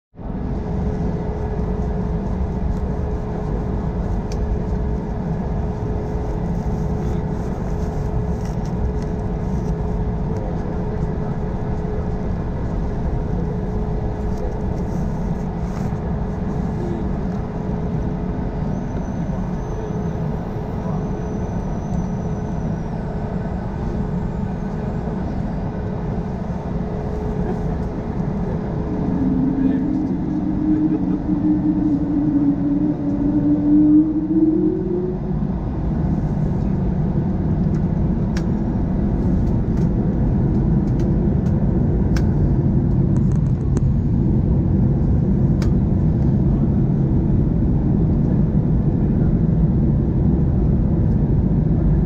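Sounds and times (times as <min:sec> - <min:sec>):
jet cabin engine drone: 0:00.2 - 0:52.0.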